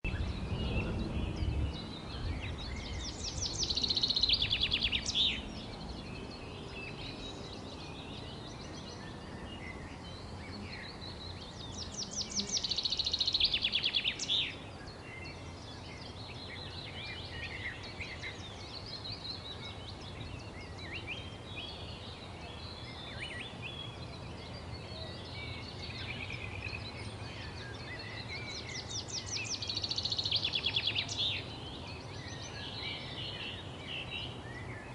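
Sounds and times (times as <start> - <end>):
songbirds chirping and singing: 0.0 - 34.9
loud rapid trilled birdsong: 0.1 - 34.9.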